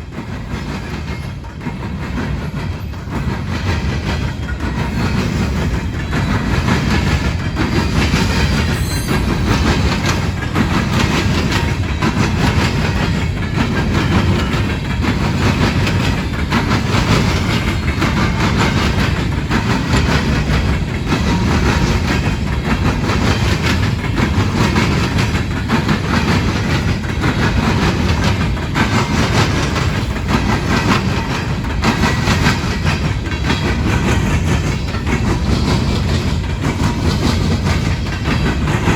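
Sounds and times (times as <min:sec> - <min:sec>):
train cars rumbling: 0:00.0 - 0:38.9
wheels clattering over crossing: 0:00.0 - 0:38.9.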